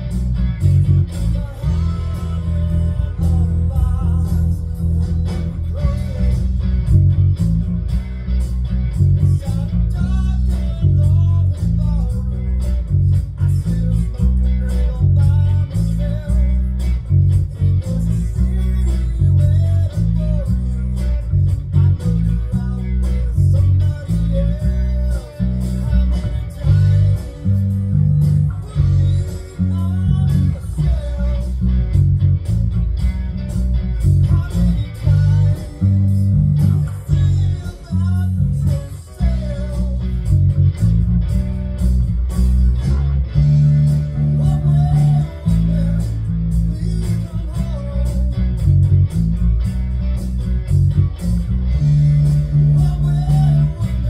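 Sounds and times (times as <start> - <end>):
electric bass blues line: 0.0 - 54.0
guitar music: 0.0 - 54.0.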